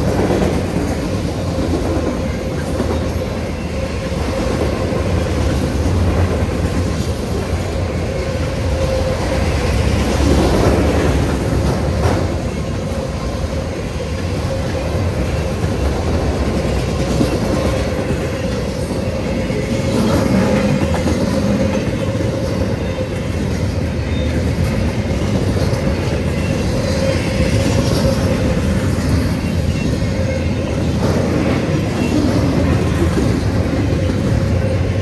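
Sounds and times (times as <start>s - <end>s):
train wheels clattering on rails: 0.0s - 35.0s.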